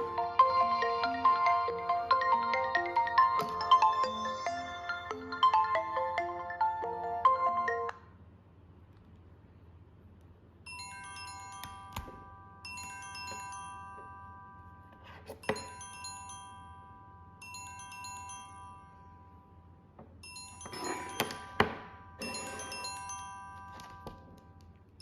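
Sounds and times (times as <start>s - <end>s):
chime-like ringtone melody: 0.0s - 8.0s, 10.7s - 24.6s.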